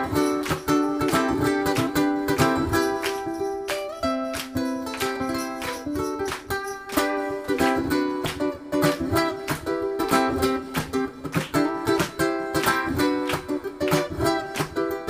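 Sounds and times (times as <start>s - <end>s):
ukulele melody: 0.0s - 15.0s.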